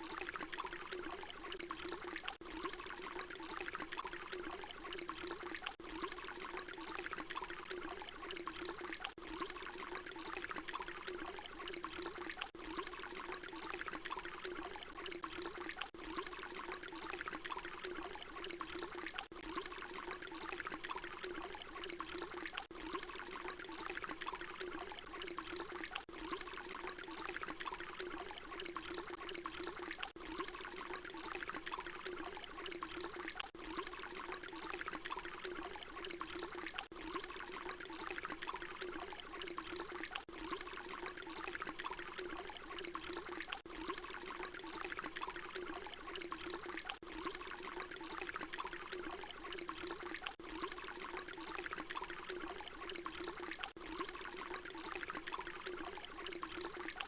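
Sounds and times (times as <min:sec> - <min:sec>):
water pouring in a stream: 0:00.0 - 0:57.0.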